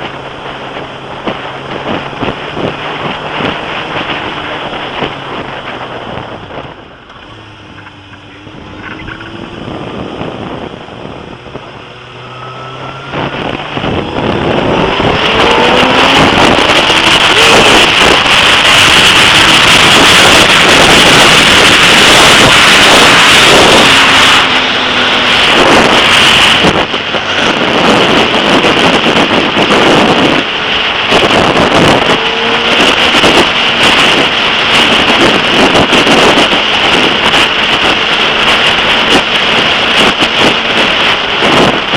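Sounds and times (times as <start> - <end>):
motorcycle engine accelerating: 0.0 - 41.9
wind noise on microphone: 0.0 - 41.9.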